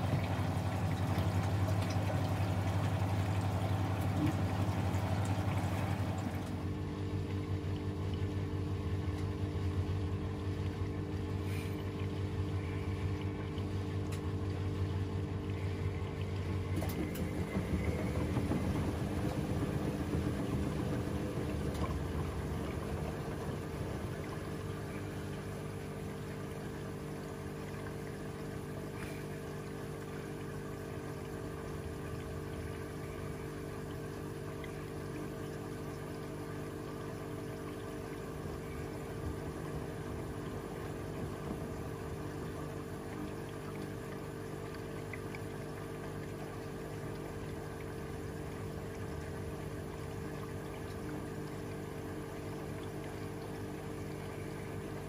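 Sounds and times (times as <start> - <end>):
washing machine motor hum: 0.0 - 55.0
water sloshing in drum: 0.0 - 55.0.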